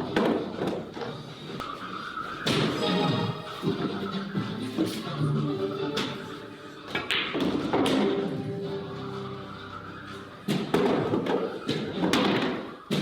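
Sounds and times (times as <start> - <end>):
pool balls clicking together: 0.0 - 5.0, 6.8 - 13.0
background music: 0.0 - 13.0.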